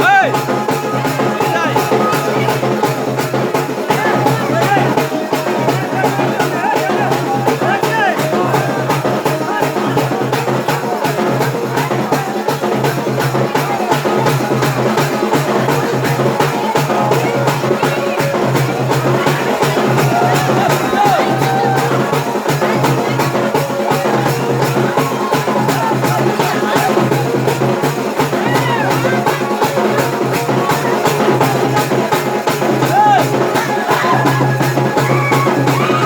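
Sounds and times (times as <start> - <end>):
dance music with drums: 0.0 - 36.0
voices over music: 0.0 - 36.0.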